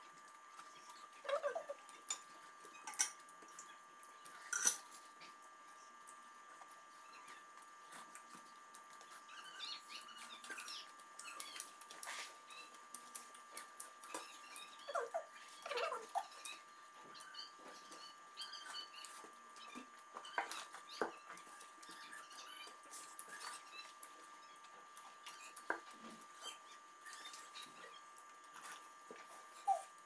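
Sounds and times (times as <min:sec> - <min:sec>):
chewing and eating by hand: 0:00.0 - 0:30.0
faint high hum: 0:00.0 - 0:30.0.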